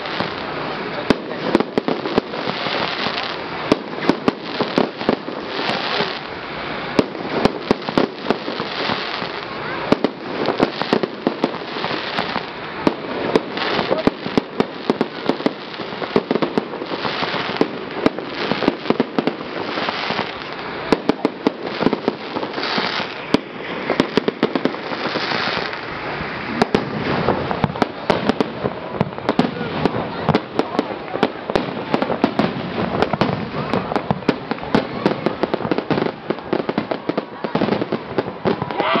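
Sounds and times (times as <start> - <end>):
fireworks crackling: 0.0 - 39.0
fireworks pops and bangs: 0.0 - 39.0.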